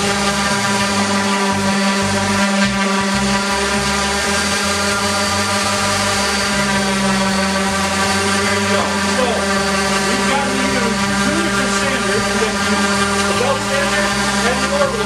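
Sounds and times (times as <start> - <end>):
electric sander running: 0.0 - 15.0.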